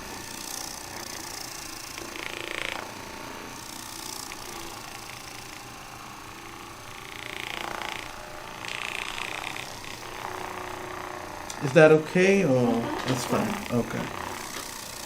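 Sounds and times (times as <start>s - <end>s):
massage gun buzzing: 0.0s - 15.0s.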